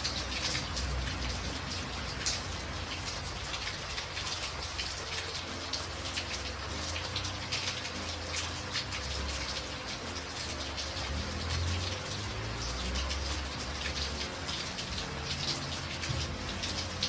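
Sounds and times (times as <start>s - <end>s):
rain drops ticking on a surface: 0.0s - 17.0s
rain hiss: 0.0s - 17.0s.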